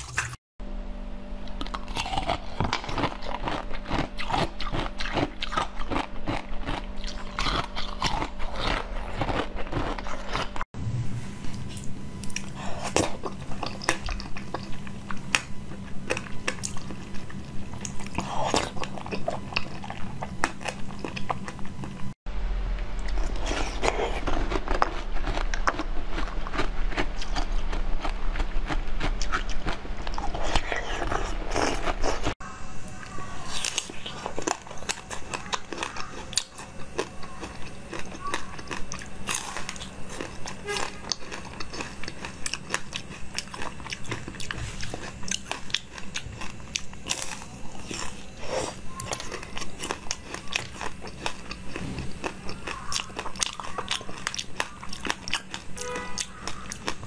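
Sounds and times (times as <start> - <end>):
steady low hum: 0.6 - 57.0
chewing jelly sweets: 1.5 - 10.6, 11.5 - 22.2, 23.0 - 32.4, 33.0 - 57.0.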